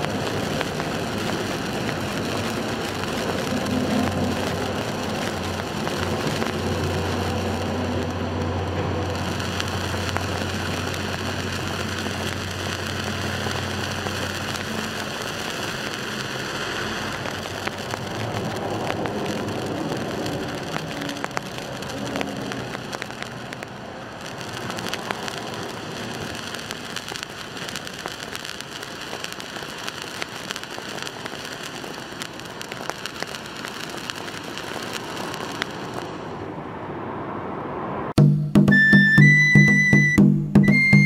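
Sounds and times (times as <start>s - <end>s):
small crackles: 0.0s - 36.3s
firework fountain hissing: 0.0s - 36.6s, 38.6s - 41.0s.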